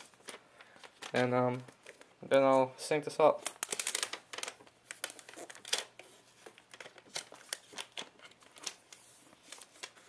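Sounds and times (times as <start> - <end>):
plastic wrap crinkling: 0.0 - 2.4, 3.3 - 10.0.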